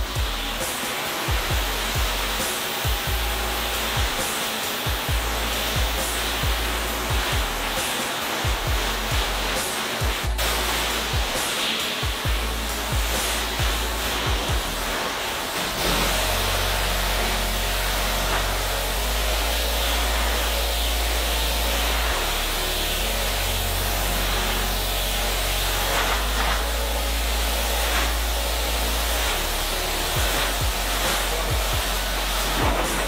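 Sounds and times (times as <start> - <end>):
pressure washer spraying water: 0.0 - 33.0.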